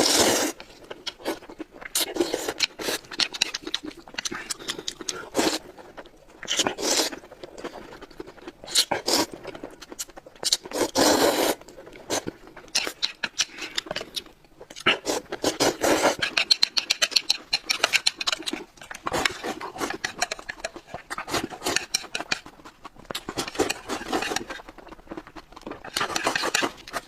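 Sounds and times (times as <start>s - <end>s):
crunching and chewing: 0.0s - 27.0s.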